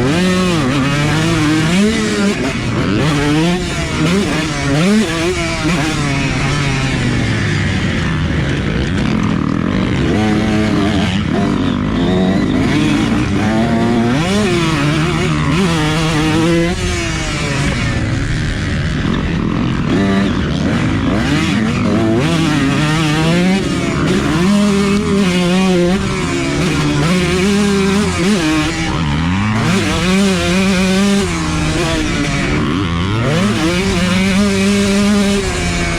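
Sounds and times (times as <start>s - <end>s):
motocross bike engine revving: 0.0s - 35.9s
steady rush of noise: 0.0s - 35.9s.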